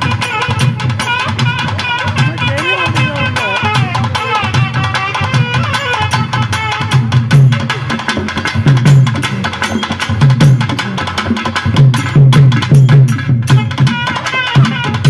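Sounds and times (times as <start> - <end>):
faint wind instrument melody: 0.0 - 15.0
sharp drum stick strokes: 0.0 - 15.0.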